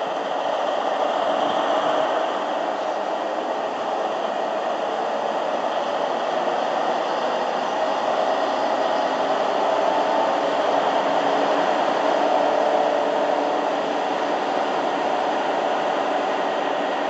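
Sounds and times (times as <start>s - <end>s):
locomotive diesel engine running: 0.0s - 17.0s.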